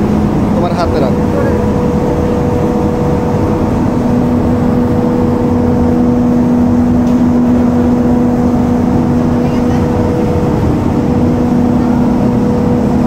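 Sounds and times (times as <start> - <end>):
factory machinery droning: 0.0 - 13.0
lower hum tone: 0.0 - 13.0.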